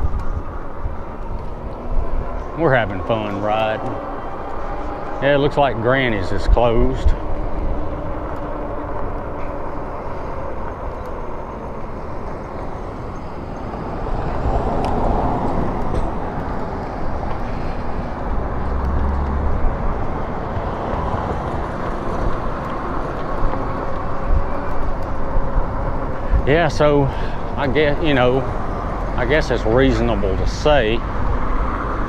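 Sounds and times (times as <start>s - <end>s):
bike road noise: 0.0s - 32.0s
wind noise on microphone: 0.0s - 32.0s.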